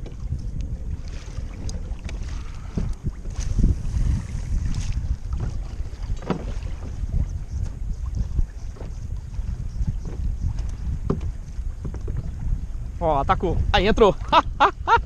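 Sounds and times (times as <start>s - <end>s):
water lapping at hull: 0.0s - 15.0s
wind buffeting microphone: 0.0s - 15.0s.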